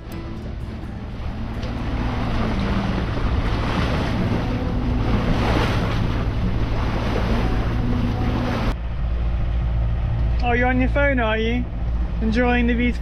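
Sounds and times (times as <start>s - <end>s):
boat engine drone: 0.0s - 13.0s
water rushing along boat bow: 0.0s - 13.0s
wind buffeting microphone: 0.0s - 13.0s.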